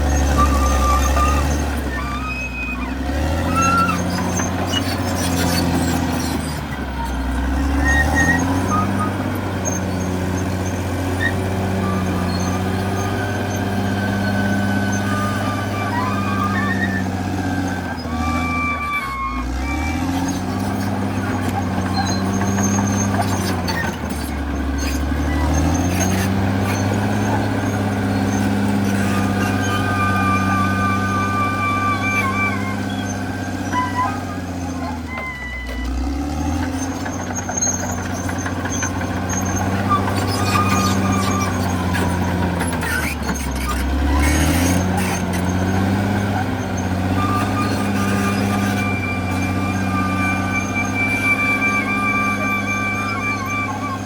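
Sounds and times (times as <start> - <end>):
bulldozer diesel engine under load: 0.0 - 54.0
high squeals: 0.0 - 54.0.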